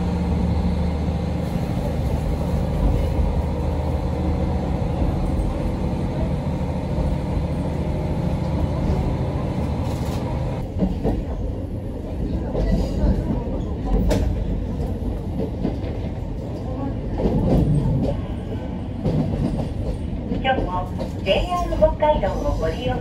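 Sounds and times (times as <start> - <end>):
railcar engine drone: 0.0 - 23.0.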